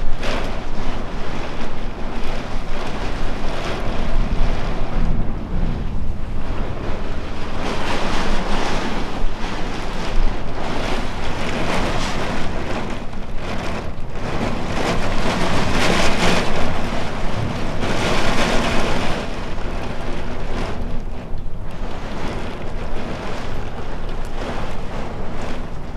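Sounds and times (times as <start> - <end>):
heavy rain: 0.0 - 25.9
wind buffeting microphone: 0.0 - 25.9.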